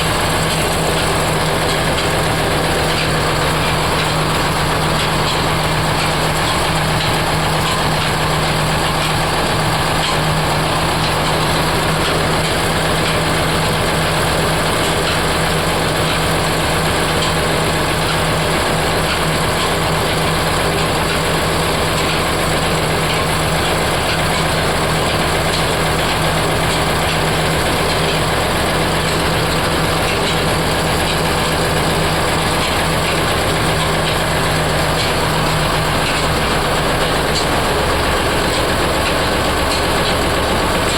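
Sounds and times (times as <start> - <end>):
heavy machinery running: 0.0 - 40.9.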